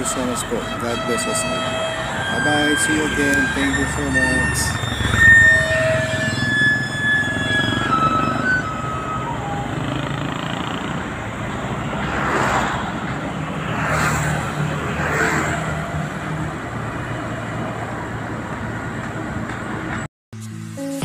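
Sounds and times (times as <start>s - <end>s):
low engine hum of traffic: 0.0s - 20.8s
vehicles passing by: 0.0s - 20.8s.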